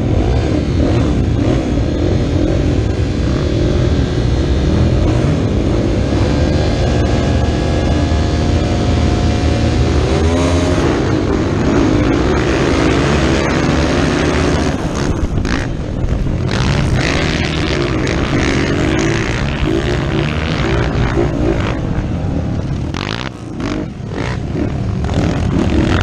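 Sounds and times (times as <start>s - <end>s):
motocross engines revving: 0.0s - 26.0s.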